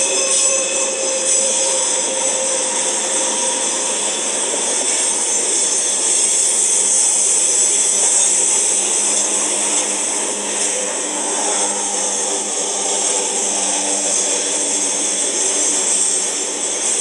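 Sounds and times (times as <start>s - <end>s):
steel wheels rushing on rail: 0.0s - 17.0s.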